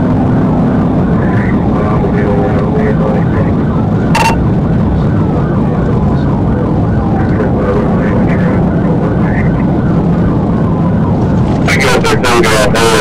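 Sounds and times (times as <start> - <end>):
car road and engine noise: 0.0 - 13.0
faint siren wailing: 0.7 - 13.0.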